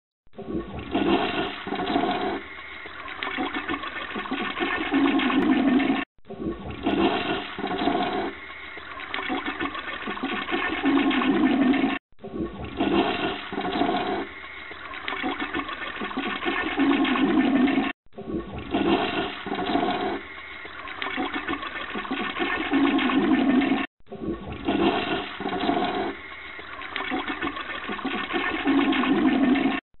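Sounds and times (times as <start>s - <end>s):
toilet flushing: 0.5s - 29.8s.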